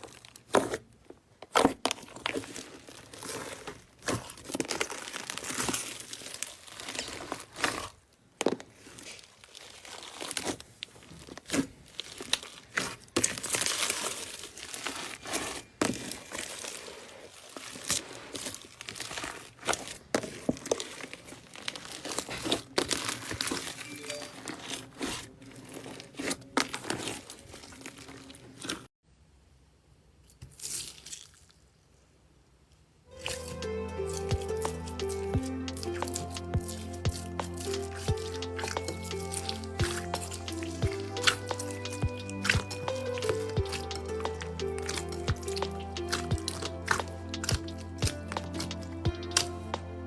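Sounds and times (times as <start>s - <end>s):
slime crackling and popping: 1.5s - 28.9s, 33.1s - 50.0s.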